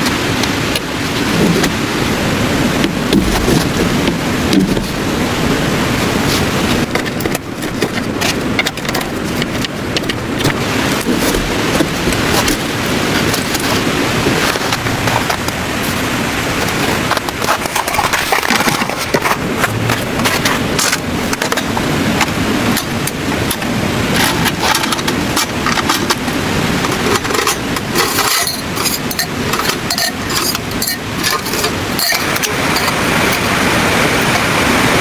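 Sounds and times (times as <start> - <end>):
snowstorm rushing: 0.0 - 35.0.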